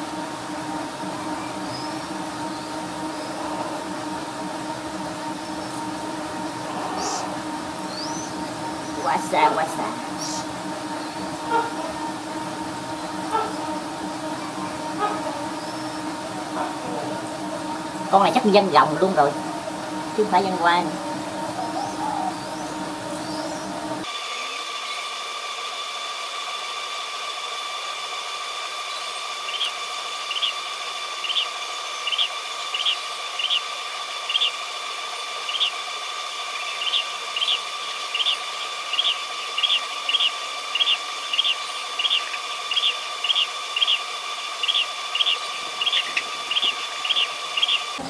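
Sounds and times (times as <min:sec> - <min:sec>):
high-pitched whine: 0:00.0 - 0:48.0
baby birds peeping: 0:01.0 - 0:04.2, 0:05.2 - 0:25.0, 0:28.8 - 0:30.6, 0:31.2 - 0:34.6, 0:35.3 - 0:48.0.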